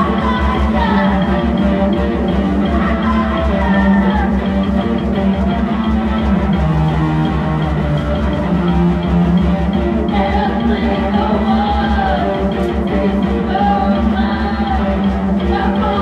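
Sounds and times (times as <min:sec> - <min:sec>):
guitar lines: 0:00.0 - 0:16.0
live band playing: 0:00.0 - 0:16.0.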